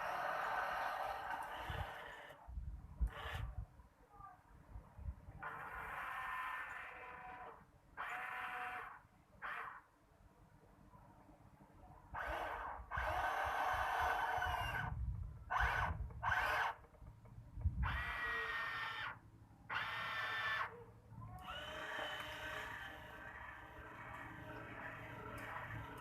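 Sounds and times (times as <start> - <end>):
toy excavator motors whining: 0.0 - 3.6, 5.4 - 9.9, 12.1 - 26.0.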